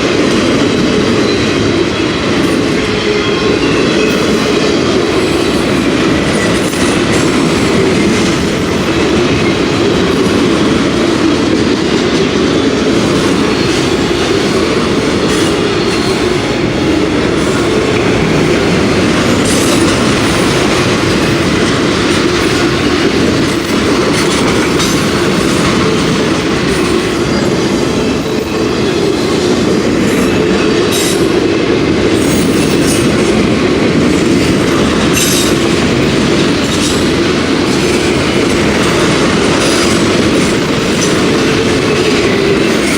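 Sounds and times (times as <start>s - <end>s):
steel wheels rumbling on rails: 0.0s - 42.9s
wheels clicking over rail joints: 0.0s - 42.9s.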